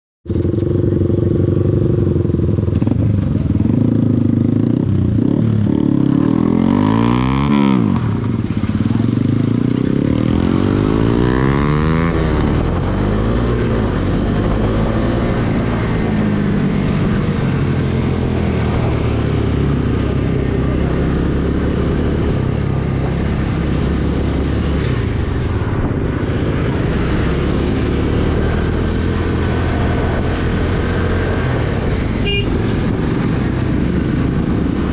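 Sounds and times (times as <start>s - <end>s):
motorcycle engine revving: 0.3s - 34.9s
road noise rushing: 0.3s - 34.9s.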